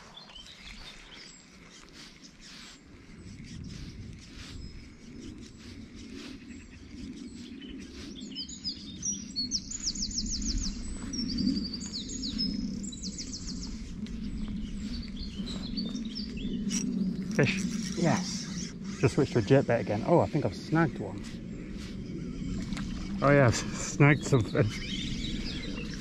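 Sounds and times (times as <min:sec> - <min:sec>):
low background rush: 0:00.0 - 0:26.0
songbird singing: 0:00.0 - 0:26.0.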